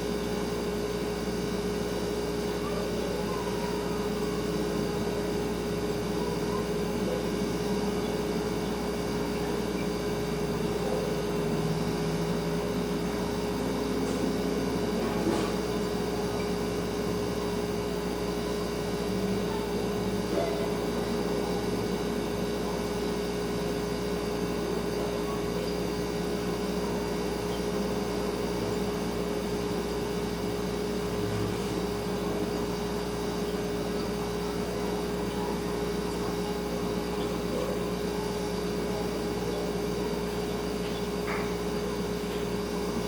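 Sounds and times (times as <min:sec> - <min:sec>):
refrigerator humming: 0:00.0 - 0:43.0.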